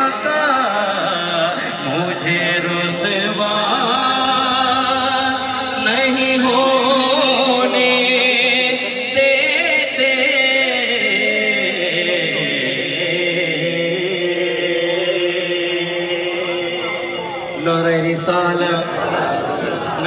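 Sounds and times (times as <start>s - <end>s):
men chanting over sound system: 0.0s - 20.0s.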